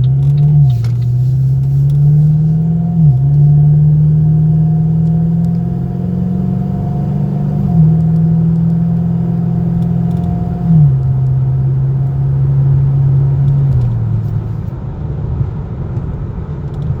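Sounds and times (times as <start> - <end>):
car engine droning while driving: 0.0 - 17.0.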